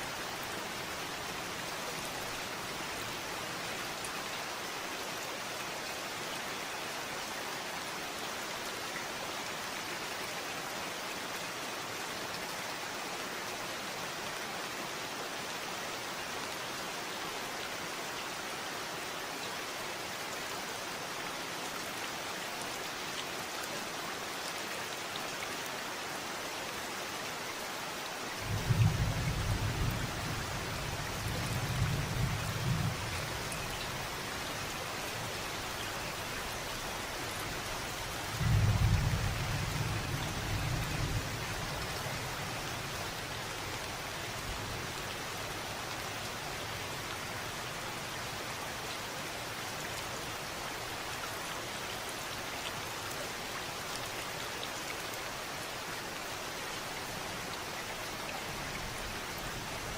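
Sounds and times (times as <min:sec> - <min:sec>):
rain hissing and pattering: 0:00.0 - 0:59.9.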